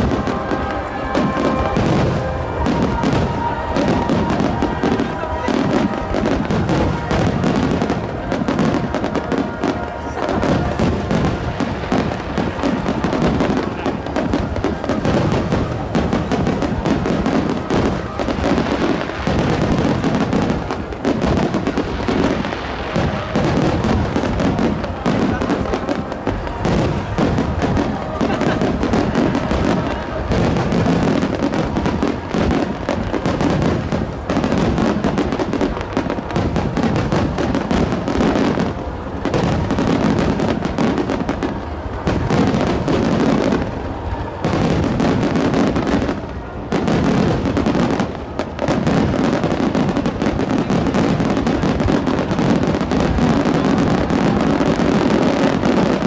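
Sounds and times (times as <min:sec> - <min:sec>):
fireworks crackling and booming: 0:00.0 - 0:56.0.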